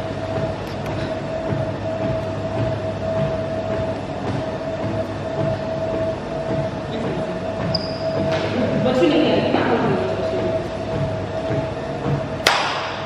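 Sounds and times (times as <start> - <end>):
mechanical rumble: 0.0 - 13.0
mid-pitched hum: 0.0 - 13.0.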